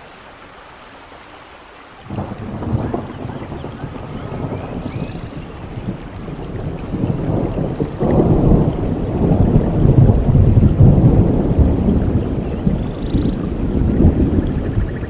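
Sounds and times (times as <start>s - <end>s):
rain falling: 0.0s - 15.0s
thunder rumbling: 2.1s - 15.0s.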